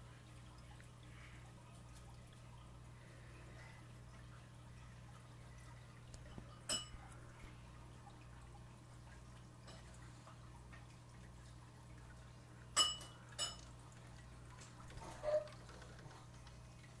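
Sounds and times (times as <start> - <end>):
aquarium air pump hum: 0.0 - 17.0.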